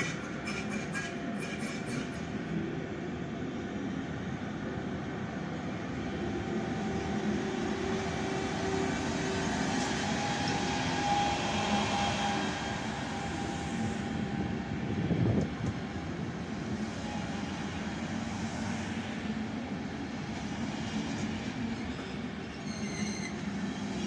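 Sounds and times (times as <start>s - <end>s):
train rolling past: 0.0s - 24.0s.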